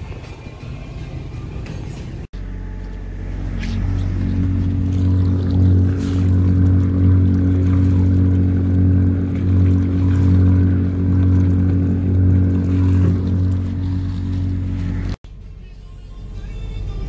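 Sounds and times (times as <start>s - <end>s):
water churning against hull: 0.0s - 15.2s
boat engines idling: 0.0s - 17.0s.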